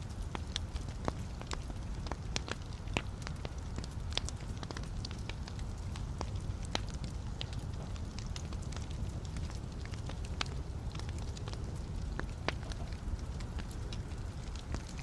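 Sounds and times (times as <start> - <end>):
logs crackling in fireplace: 0.0 - 15.0.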